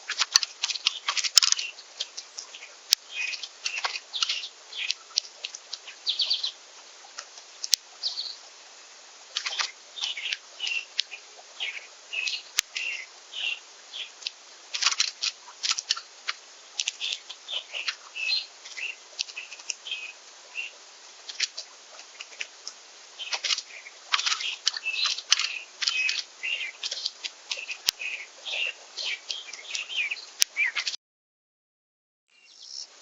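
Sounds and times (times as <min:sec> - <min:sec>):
songbirds chirping: 0:00.0 - 0:31.0, 0:32.3 - 0:33.0.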